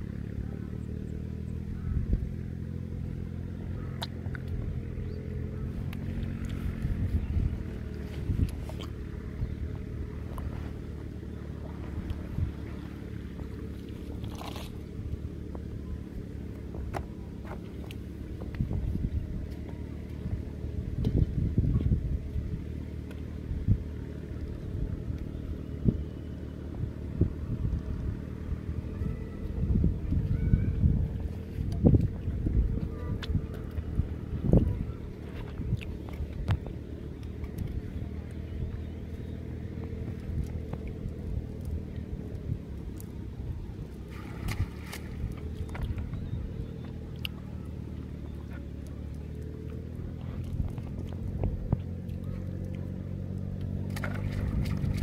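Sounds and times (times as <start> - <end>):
engine running: 0.0 - 55.0
low rumble: 0.0 - 55.0.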